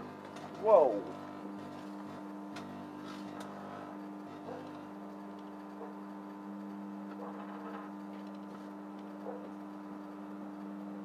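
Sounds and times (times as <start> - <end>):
electrical arcing crackles: 0.0 - 11.0
microwave oven humming: 0.0 - 11.0.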